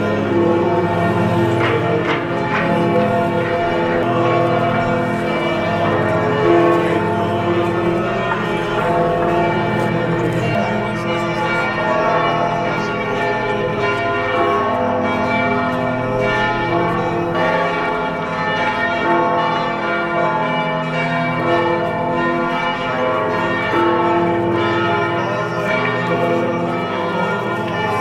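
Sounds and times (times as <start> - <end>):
church bells pealing: 0.0 - 28.0.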